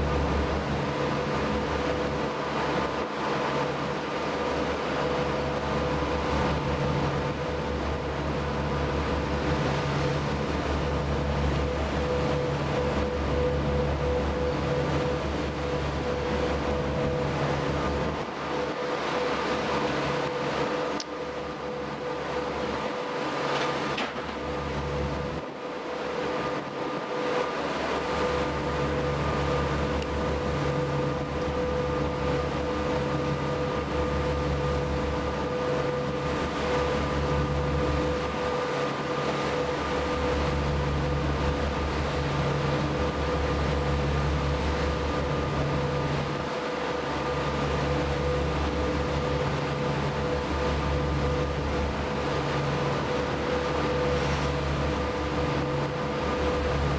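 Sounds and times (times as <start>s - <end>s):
boat engine drone: 0.0s - 56.9s.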